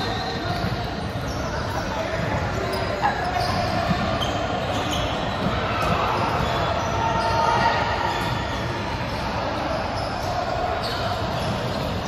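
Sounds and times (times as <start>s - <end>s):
volleyballs hit and bouncing: 0.0s - 9.6s, 10.2s - 12.0s
echoing din of voices: 0.0s - 12.0s.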